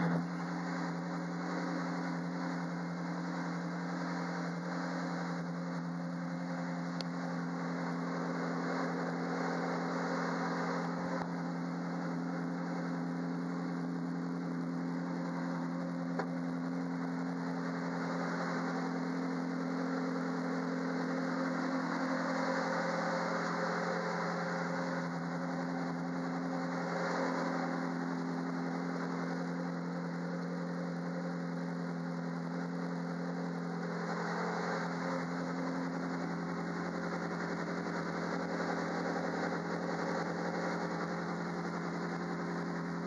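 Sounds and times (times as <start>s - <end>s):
race car engine idling: 0.0s - 43.0s.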